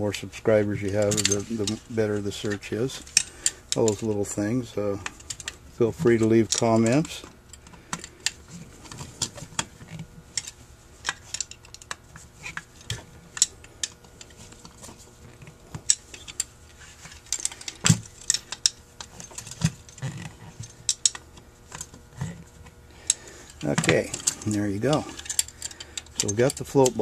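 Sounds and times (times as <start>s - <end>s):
metal parts clicking and tapping: 0.8s - 22.4s, 23.0s - 27.0s.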